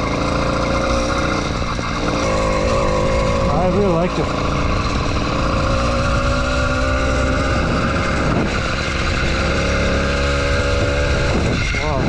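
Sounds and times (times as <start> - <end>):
two-stroke bicycle engine running: 0.0 - 12.0.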